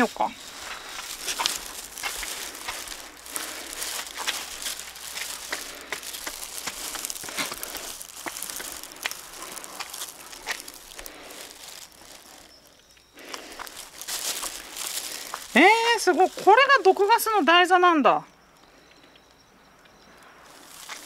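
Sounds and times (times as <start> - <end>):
footsteps crunching on rough path: 0.0 - 17.3, 20.4 - 21.0.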